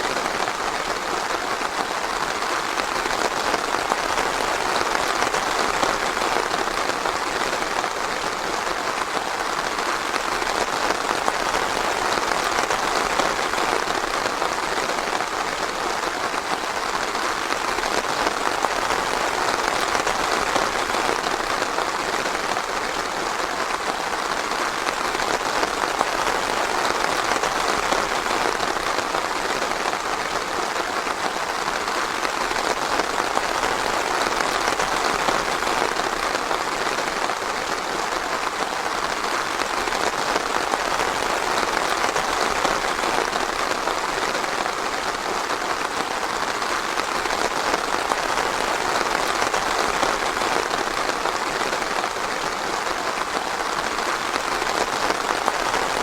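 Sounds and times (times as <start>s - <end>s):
light rain in a forest: 0.0s - 56.0s.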